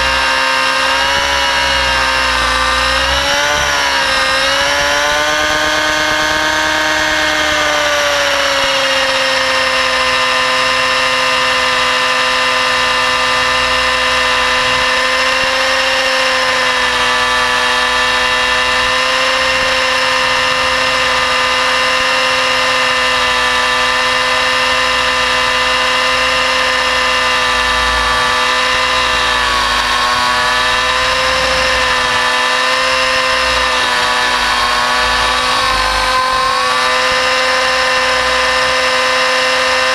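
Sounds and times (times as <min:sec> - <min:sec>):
rc helicopter engine: 0:00.0 - 0:39.9
rotor whine: 0:00.0 - 0:39.9.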